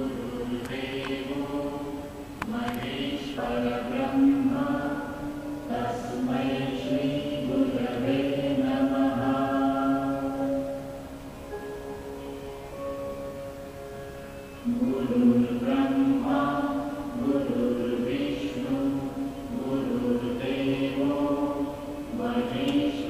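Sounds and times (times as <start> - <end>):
slow devotional chanting: 0.0 - 23.0.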